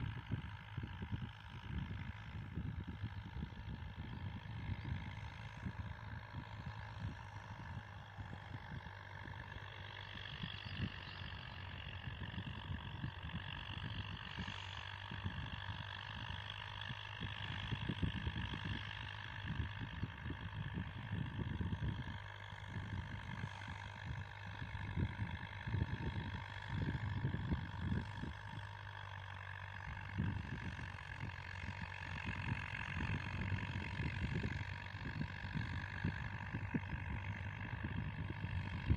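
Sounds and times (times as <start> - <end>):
wind buffeting microphone: 0.0 - 28.7, 29.9 - 38.9
distant tractor engine running: 0.0 - 38.9.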